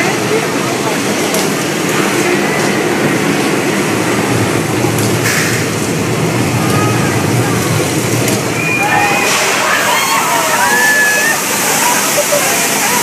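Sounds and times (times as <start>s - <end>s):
loud steady rumble: 0.0s - 13.0s.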